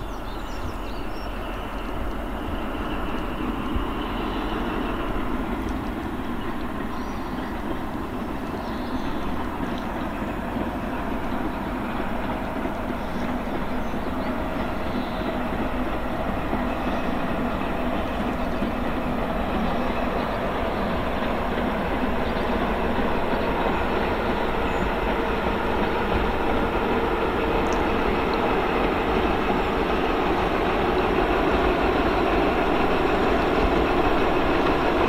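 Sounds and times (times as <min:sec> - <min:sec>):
train engine drone: 0:00.0 - 0:35.0
train wheels on rails: 0:00.0 - 0:35.0.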